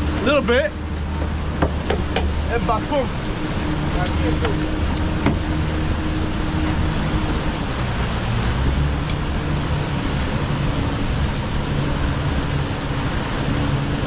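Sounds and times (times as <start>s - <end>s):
outboard engines humming: 0.0s - 14.0s
wind and water rushing: 0.0s - 14.0s.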